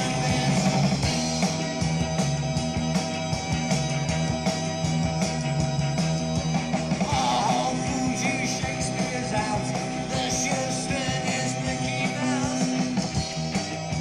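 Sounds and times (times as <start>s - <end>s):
post-punk rock music: 0.0s - 14.0s.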